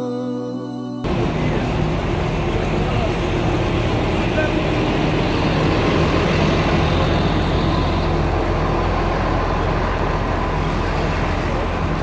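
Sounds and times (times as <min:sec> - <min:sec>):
large vehicle engine humming: 0:01.0 - 0:12.0
street traffic: 0:01.1 - 0:12.0.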